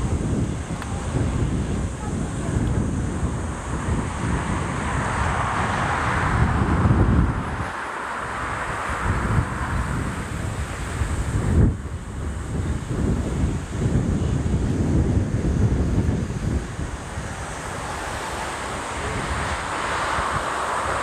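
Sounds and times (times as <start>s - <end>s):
jet airliner engine rushing: 0.0s - 21.0s
wind buffeting microphone: 0.0s - 21.0s.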